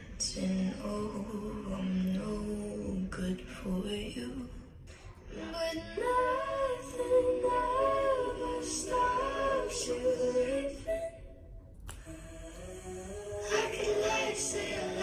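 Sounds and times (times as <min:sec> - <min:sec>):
woman singing: 0:00.0 - 0:04.7, 0:05.3 - 0:11.3, 0:12.0 - 0:15.0.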